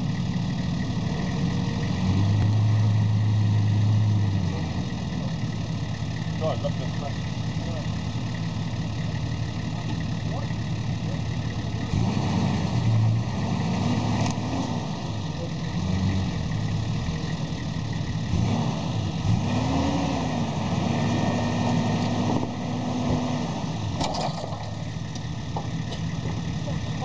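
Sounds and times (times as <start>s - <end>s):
vehicle engine revving: 0.0s - 27.0s.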